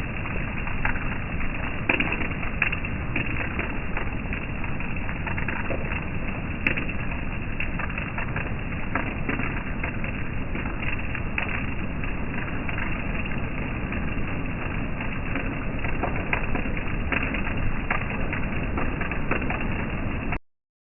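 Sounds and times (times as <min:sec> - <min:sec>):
rain dripping: 0:00.0 - 0:20.4
steady rain falling: 0:00.0 - 0:20.4.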